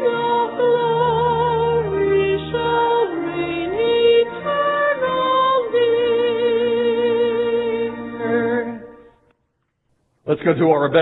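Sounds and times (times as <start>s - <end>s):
person singing with vibrato: 0.0s - 9.2s.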